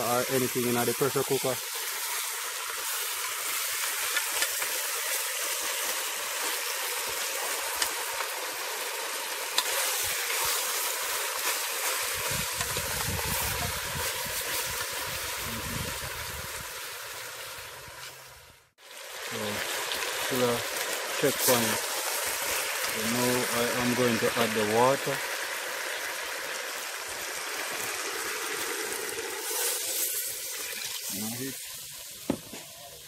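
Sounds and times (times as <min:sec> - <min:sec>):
meat sizzling in oil: 0:00.0 - 0:33.0.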